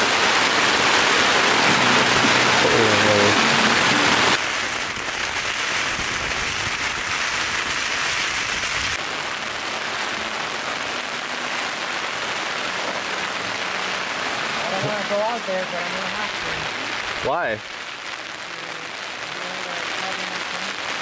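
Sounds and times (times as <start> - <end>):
rain pattering on tent fabric: 0.0 - 21.0.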